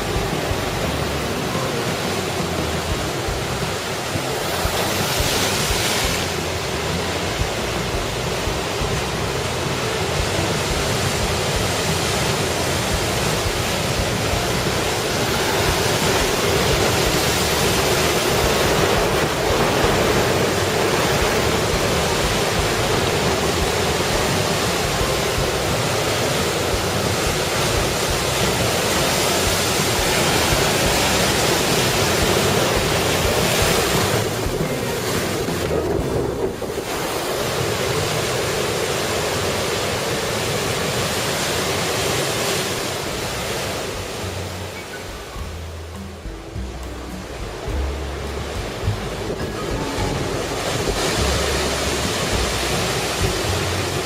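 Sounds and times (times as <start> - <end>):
heavy surf breaking: 0.0 - 54.0
strong wind: 0.0 - 54.0.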